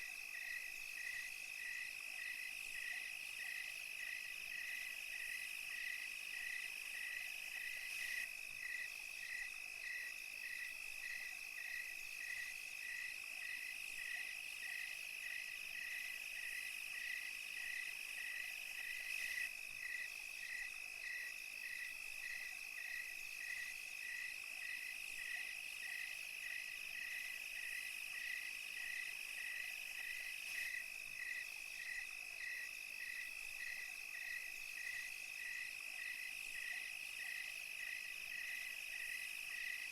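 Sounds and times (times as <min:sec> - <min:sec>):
cricket chirping: 0:00.0 - 0:39.9
crickets trilling: 0:00.1 - 0:39.8
insects high hiss: 0:00.2 - 0:39.8.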